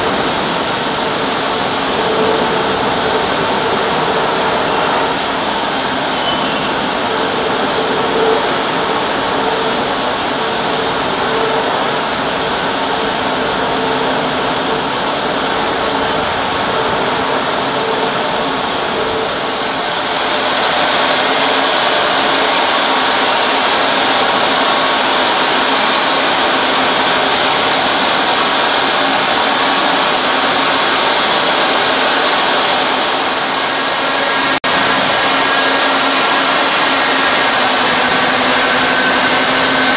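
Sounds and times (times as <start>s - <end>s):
loud machinery noise: 0.0s - 39.9s.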